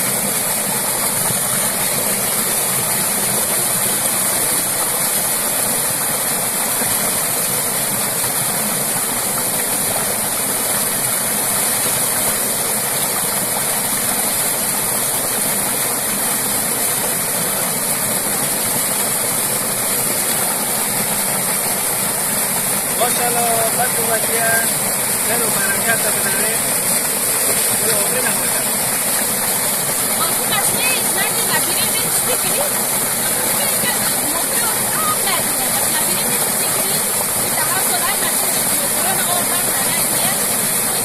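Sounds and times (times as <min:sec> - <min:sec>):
water gushing into pool: 0:00.0 - 0:41.0.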